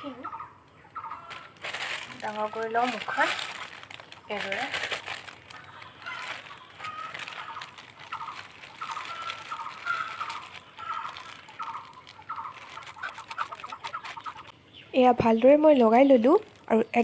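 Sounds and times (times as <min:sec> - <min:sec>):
chickens clucking: 0:00.0 - 0:14.8
plastic bag crinkling: 0:01.1 - 0:14.5, 0:16.1 - 0:17.0.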